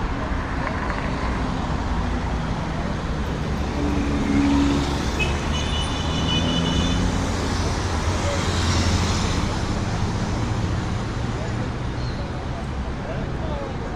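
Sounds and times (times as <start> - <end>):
traffic rumble: 0.0 - 13.9.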